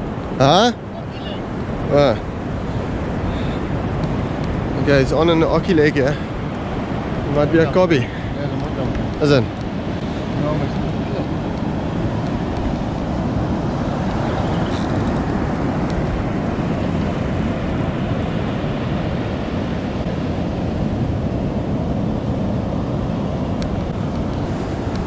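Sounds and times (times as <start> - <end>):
breaking surf: 0.0 - 25.0
wind on microphone: 0.0 - 25.0.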